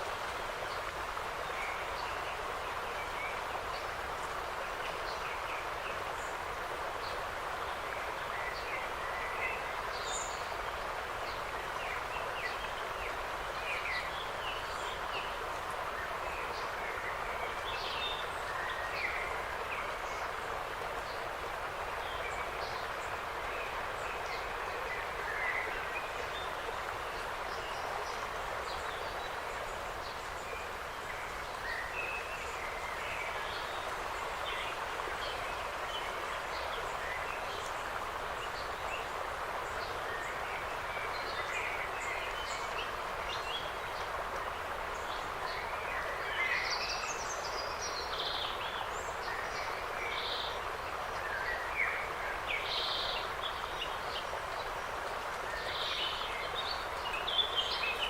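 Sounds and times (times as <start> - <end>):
outdoor ambience hiss: 0.0 - 58.0.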